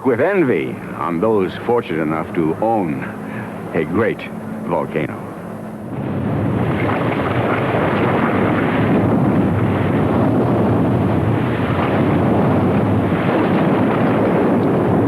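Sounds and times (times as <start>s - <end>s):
volcanic eruption rumbling: 0.0s - 15.0s.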